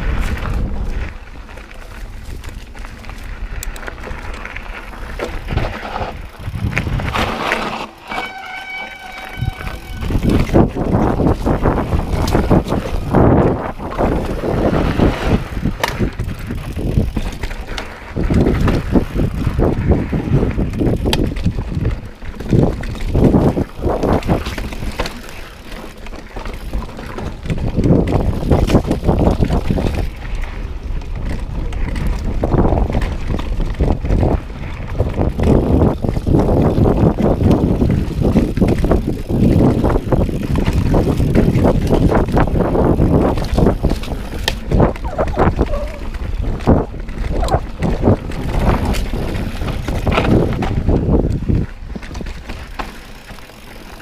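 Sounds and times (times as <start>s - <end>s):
wind on microphone: 0.0s - 25.2s, 26.6s - 54.0s
bike knocking and rattling: 0.0s - 54.0s
knobby tyres rumbling on dirt: 0.0s - 54.0s.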